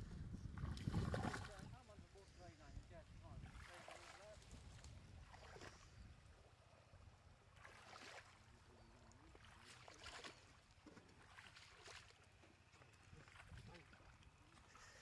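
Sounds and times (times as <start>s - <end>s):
feet wading through shallow water: 0.4s - 15.0s.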